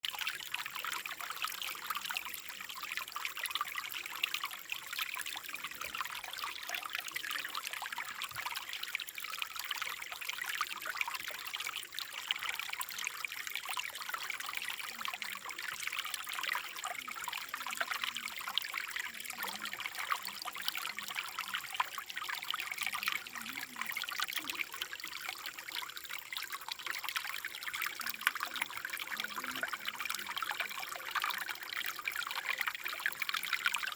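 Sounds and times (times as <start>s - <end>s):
water trickling: 0.0s - 33.9s.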